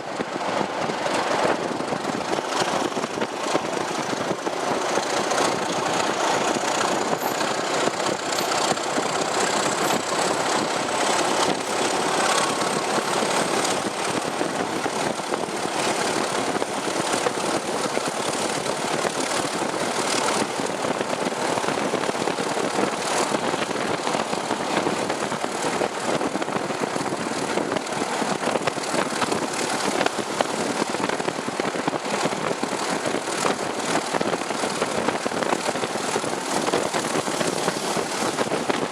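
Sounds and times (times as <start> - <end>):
diesel train engine running: 0.0 - 38.9.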